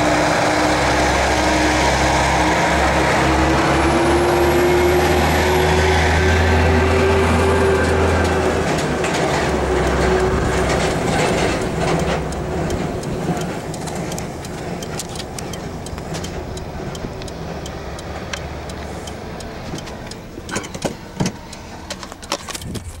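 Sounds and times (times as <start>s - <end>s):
heavy road traffic rumble: 0.0s - 23.0s.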